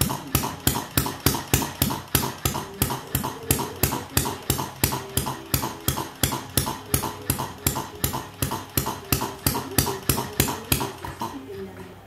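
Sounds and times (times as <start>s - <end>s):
stationary engine clicking: 0.0s - 11.5s.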